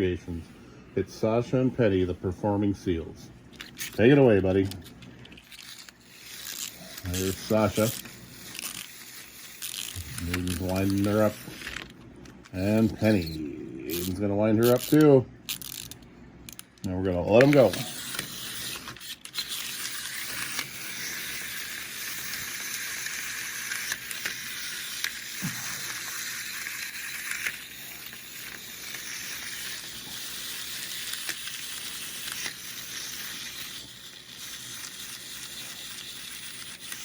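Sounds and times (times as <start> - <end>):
clockwork toy motors whirring: 3.5 - 37.0.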